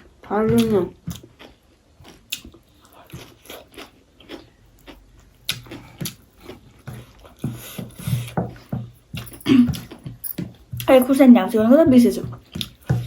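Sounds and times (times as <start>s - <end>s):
person chewing food: 0.0s - 11.0s, 12.2s - 13.0s.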